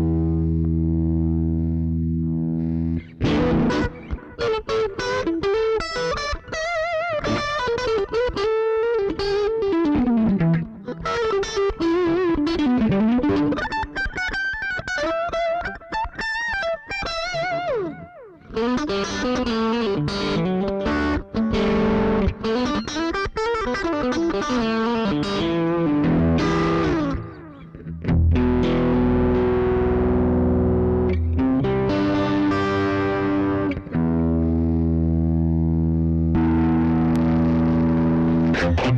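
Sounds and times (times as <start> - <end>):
electric guitar lead lines: 0.0 - 38.9.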